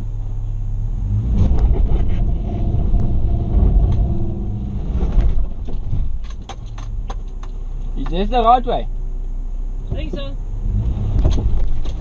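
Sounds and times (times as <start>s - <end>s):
engine working hard: 0.0s - 12.0s.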